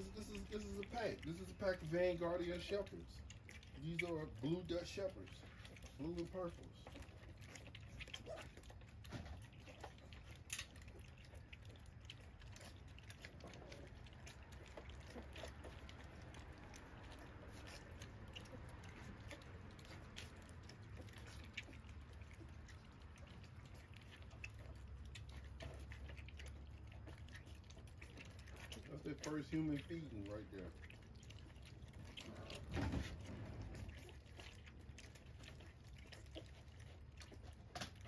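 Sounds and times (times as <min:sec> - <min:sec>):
puppies lapping food: 0:00.0 - 0:38.0.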